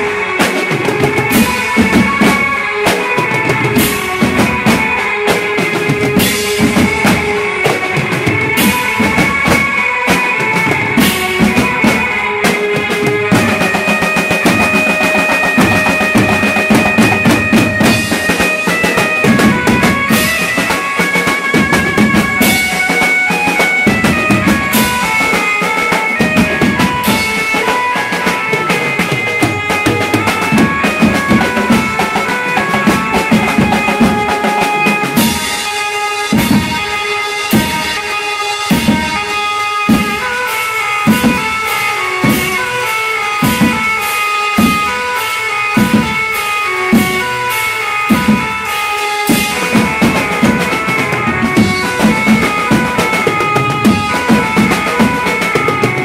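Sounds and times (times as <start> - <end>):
dhol and drum beats: 0.0 - 56.0
keyed banjo melody: 0.0 - 56.0.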